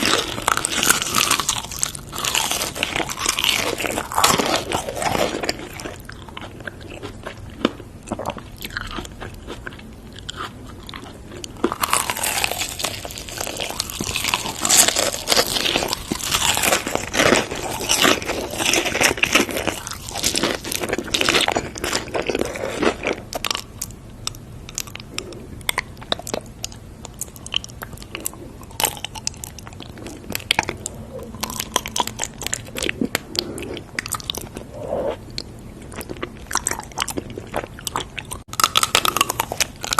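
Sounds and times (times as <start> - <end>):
crunching crisp food: 0.0 - 39.9.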